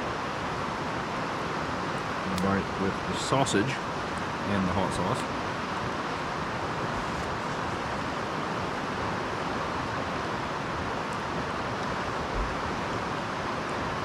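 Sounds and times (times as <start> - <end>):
stream rushing over rapids: 0.0 - 14.0.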